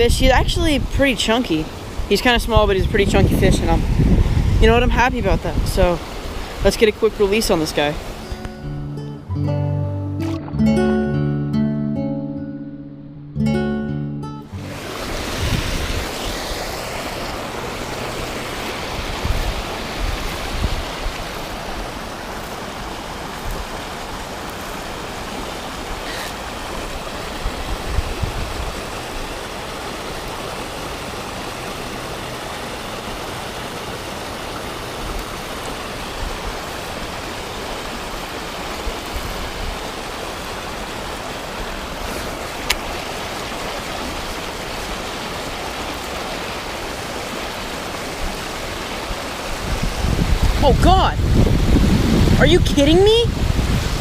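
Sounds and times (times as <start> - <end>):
river current rushing: 0.0 - 10.9, 14.3 - 54.0.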